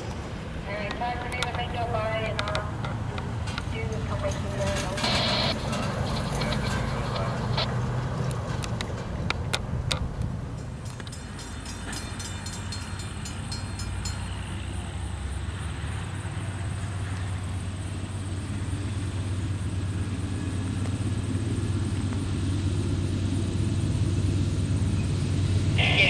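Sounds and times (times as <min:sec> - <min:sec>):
low engine rumble: 0:00.0 - 0:26.0
rail wheels clicking over joints: 0:00.0 - 0:26.0.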